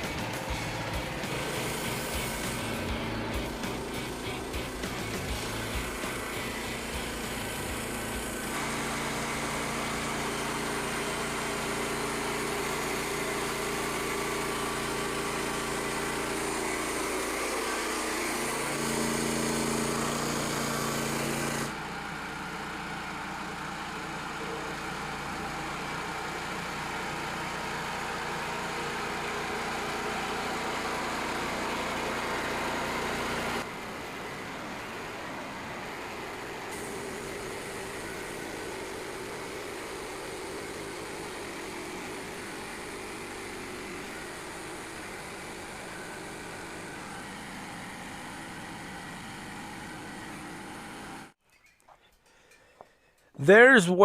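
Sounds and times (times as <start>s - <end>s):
sawmill gas engine running: 0.0s - 51.4s.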